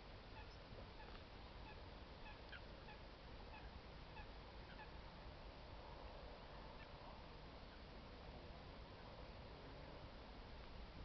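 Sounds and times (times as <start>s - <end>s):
faint distant bird calls: 0.0s - 11.0s
low background noise: 0.0s - 11.0s.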